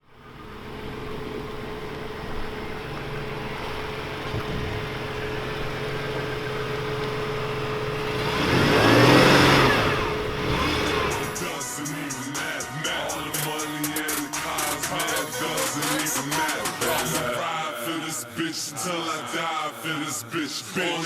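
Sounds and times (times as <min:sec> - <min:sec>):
van engine idling: 0:00.0 - 0:21.0.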